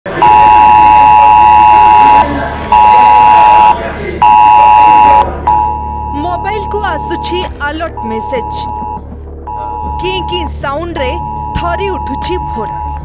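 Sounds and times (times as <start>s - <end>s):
harsh two-pitch alert beep: 0.2s - 13.0s.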